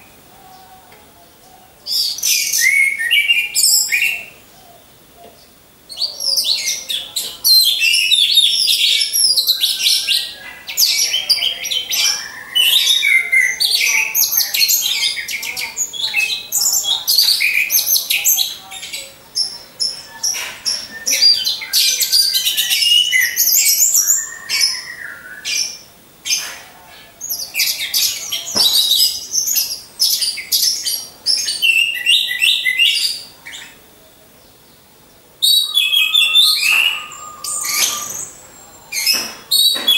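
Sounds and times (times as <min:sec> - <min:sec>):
thrushes singing: 0:00.0 - 0:39.9.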